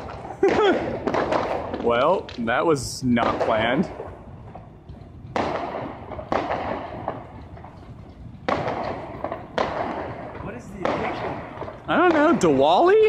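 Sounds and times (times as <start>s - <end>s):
fireworks bangs with rumbling echo: 0.0s - 13.0s.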